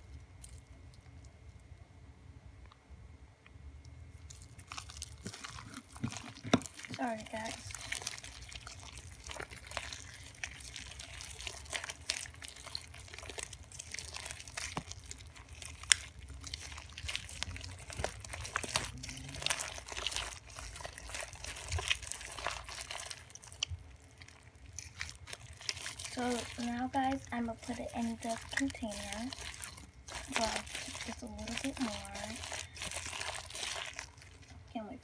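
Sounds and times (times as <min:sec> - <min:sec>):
slime with beads crackling: 0:04.1 - 0:35.0.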